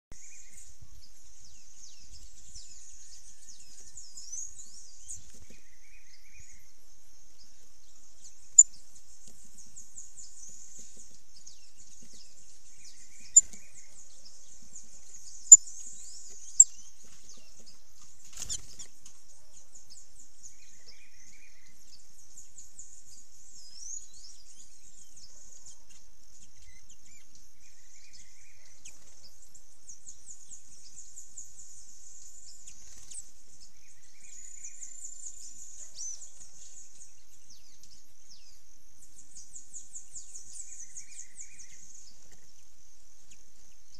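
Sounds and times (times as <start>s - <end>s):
birds chirping: 0.1s - 43.9s
insects chorus: 0.2s - 43.9s.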